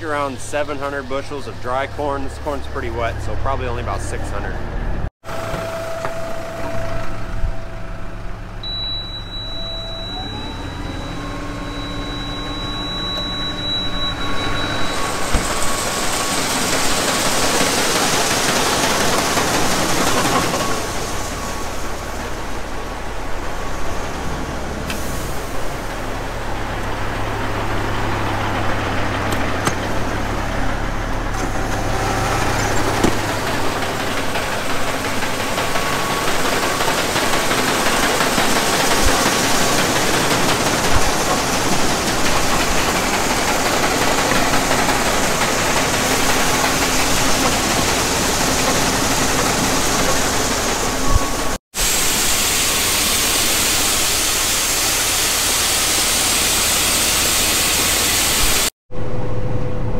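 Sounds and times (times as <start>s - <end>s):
tractor diesel engine running: 0.0s - 59.9s
grain auger rushing: 8.6s - 58.7s.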